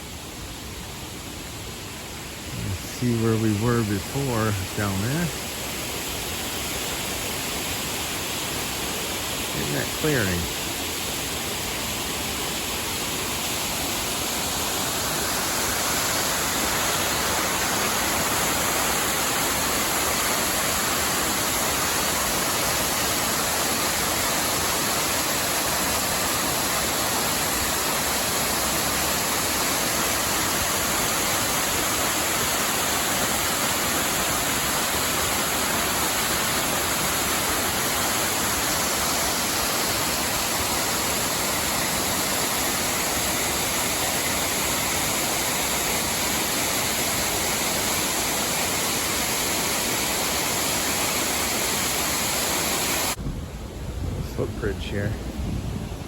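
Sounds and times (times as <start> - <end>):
waterfall rushing: 0.0 - 53.2.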